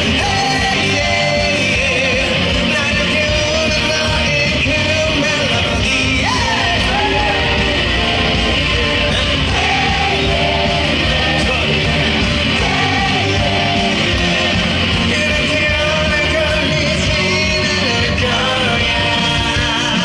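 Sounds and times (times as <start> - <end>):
loud rock band: 0.0 - 20.0
male vocalist singing: 0.0 - 20.0.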